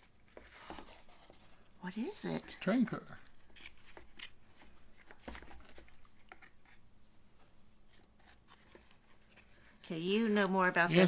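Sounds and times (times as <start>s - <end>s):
rustling of items unwrapped: 0.0s - 11.0s.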